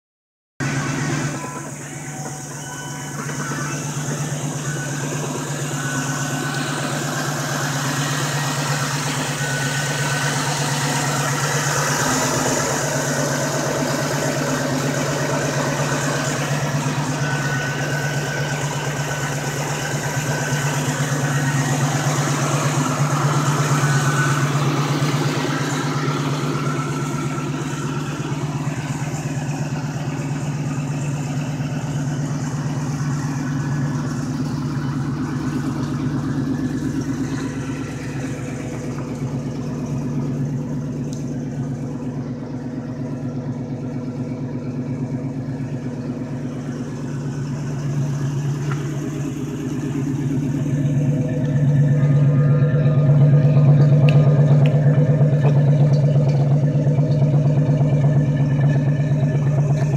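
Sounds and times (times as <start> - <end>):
car engine idling: 0.6 - 59.9.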